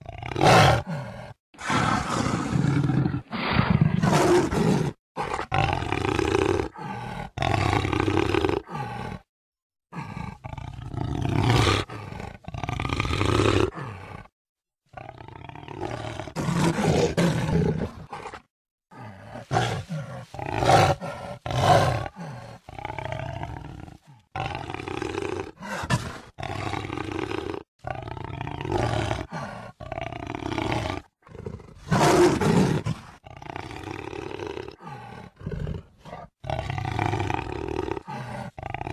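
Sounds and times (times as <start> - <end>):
jaguar roaring: 0.0 - 9.3, 9.9 - 14.3, 15.0 - 38.9.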